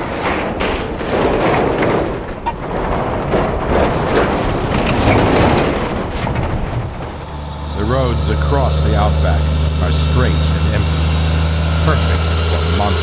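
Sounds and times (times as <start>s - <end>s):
truck trailers rushing past: 0.0s - 13.0s.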